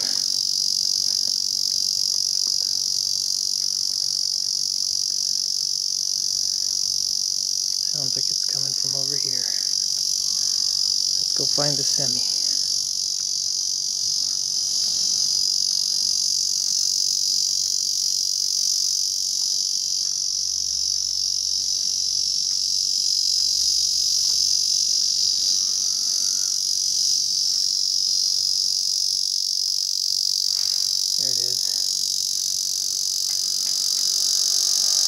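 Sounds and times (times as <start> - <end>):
cicada buzzing: 0.0 - 35.0.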